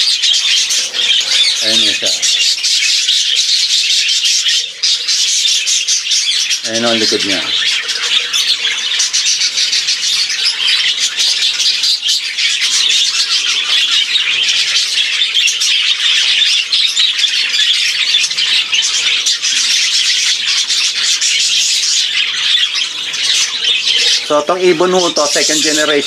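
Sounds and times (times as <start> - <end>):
budgerigars chattering and squawking: 0.0 - 26.0.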